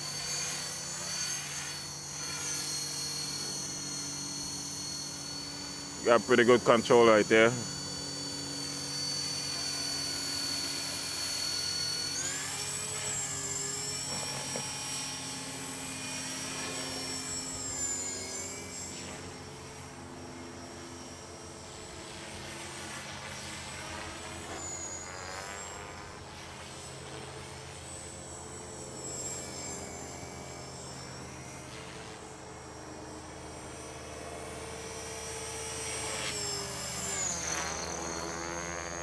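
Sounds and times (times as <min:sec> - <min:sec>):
rc helicopter motor whine: 0:00.0 - 0:39.0.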